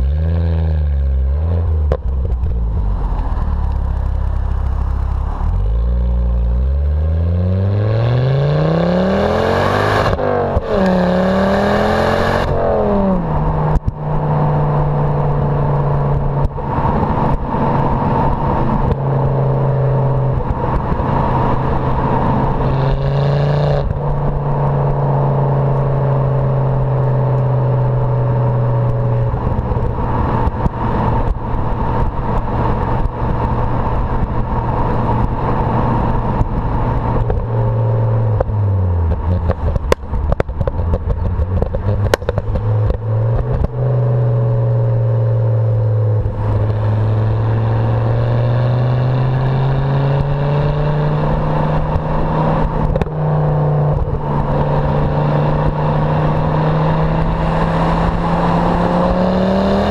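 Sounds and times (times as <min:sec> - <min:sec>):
car exhaust revving and droning: 0:00.0 - 0:59.9.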